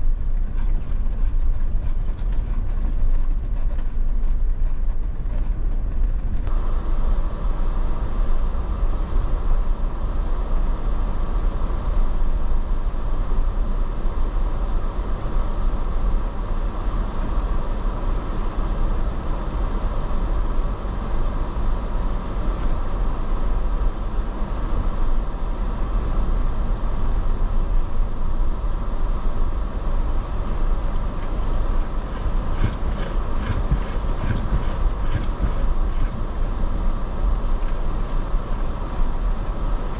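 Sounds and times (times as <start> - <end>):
off-road vehicle engine rumbling: 0.0 - 39.9.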